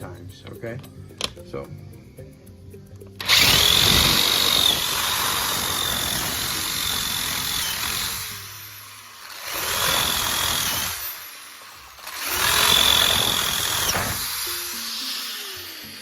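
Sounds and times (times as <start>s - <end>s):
power drill whining: 3.1s - 16.0s.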